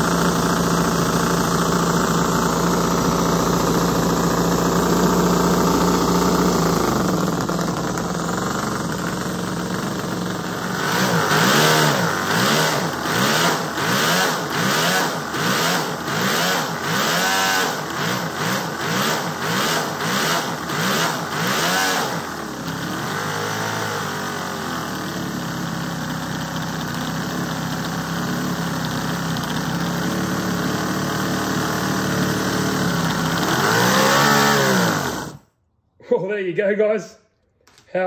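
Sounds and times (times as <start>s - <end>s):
model engine revving: 0.0s - 35.4s.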